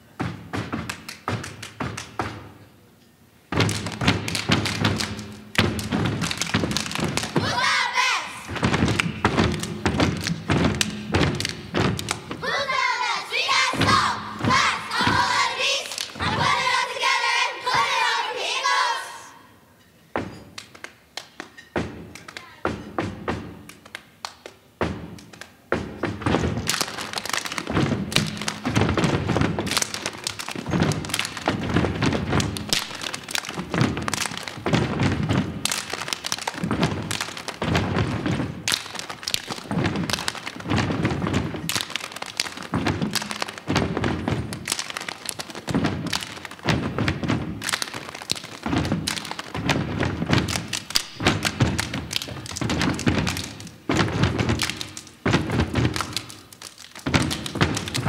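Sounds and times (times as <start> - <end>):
children stomping and clapping: 0.0 - 2.7, 3.5 - 19.3, 20.2 - 58.0.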